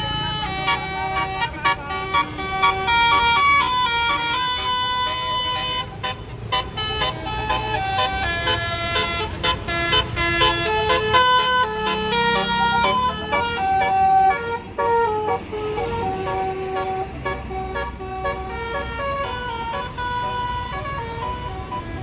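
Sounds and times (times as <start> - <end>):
bus musical horn melody: 0.0 - 22.0.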